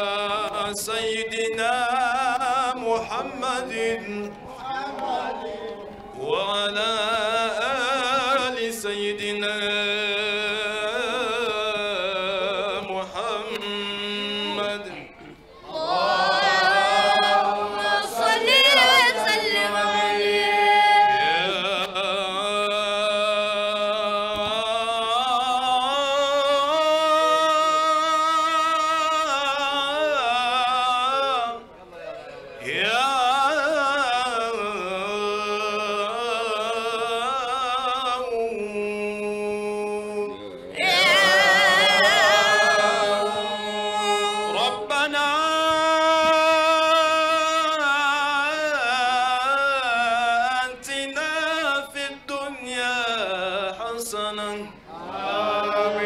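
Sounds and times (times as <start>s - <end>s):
man chanting into a microphone: 0.0s - 15.3s, 19.8s - 40.8s, 42.3s - 54.9s.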